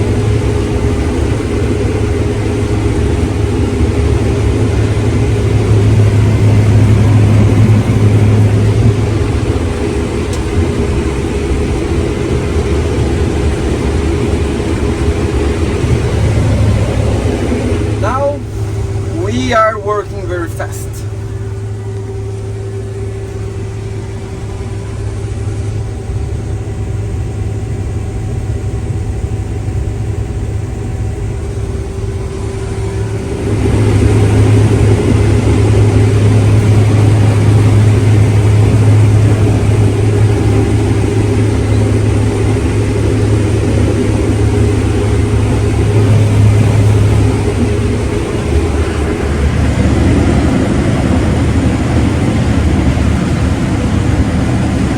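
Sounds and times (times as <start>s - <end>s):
farm machinery engine running: 0.0s - 54.9s.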